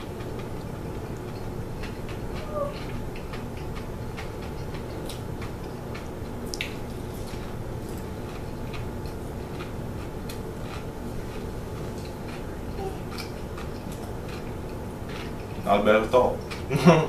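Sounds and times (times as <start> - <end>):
low background hum: 0.0 - 17.0
eggshell crunching while chewing: 0.1 - 15.6.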